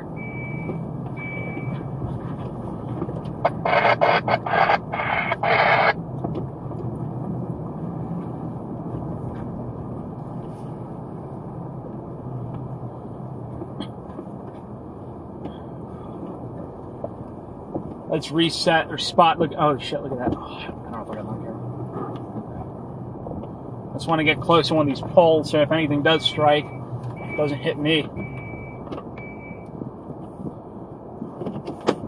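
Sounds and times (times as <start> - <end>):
car engine and road hum: 0.0 - 32.0.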